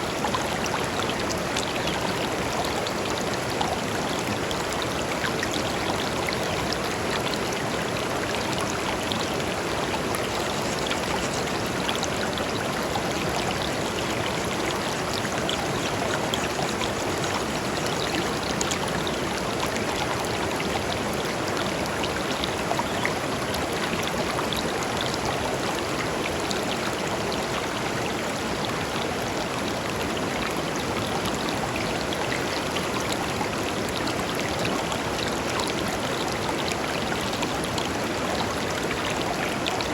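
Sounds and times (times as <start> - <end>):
river running over stones: 0.0 - 39.9.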